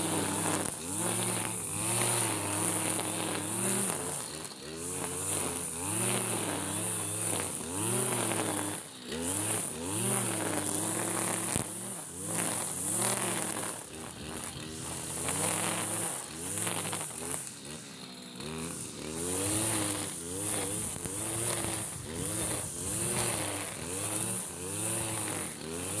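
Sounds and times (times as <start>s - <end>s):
brush cutter engine under load: 0.0s - 26.0s.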